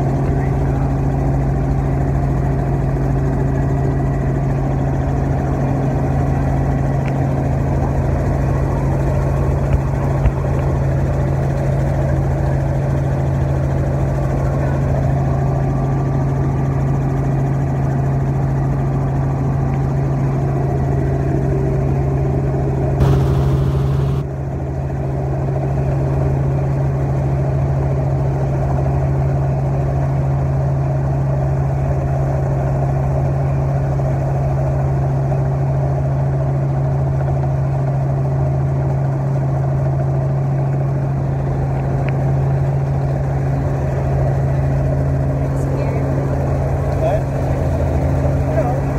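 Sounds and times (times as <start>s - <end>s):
helicopter engine and rotors droning: 0.0s - 48.9s.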